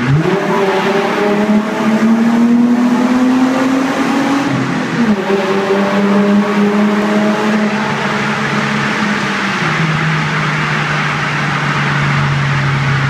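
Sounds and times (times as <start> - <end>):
car engine in a tunnel: 0.0 - 13.0.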